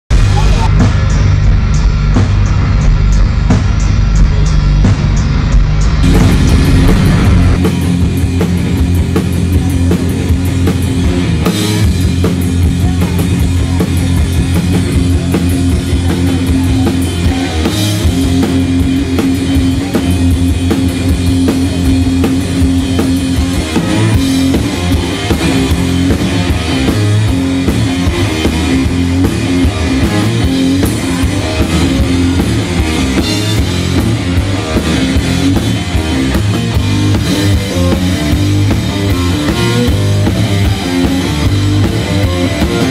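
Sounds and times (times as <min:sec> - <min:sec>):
driving drum beat: 0:00.0 - 0:42.9
electric guitar chords: 0:00.1 - 0:42.9.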